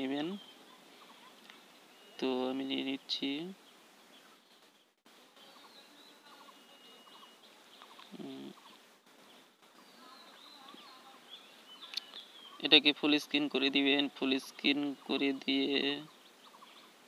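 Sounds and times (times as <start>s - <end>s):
faint birdsong chirps: 0.0s - 17.0s.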